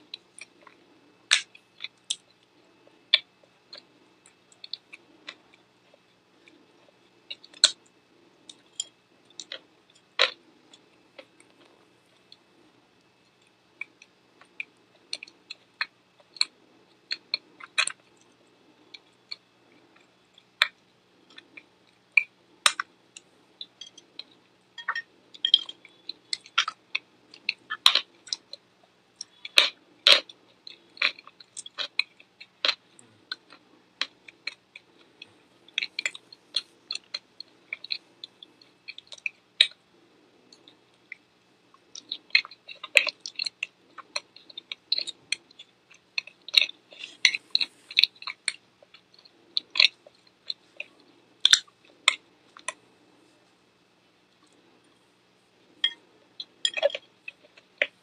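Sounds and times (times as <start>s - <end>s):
person chewing crunchy food: 0.0s - 53.5s, 54.3s - 58.0s.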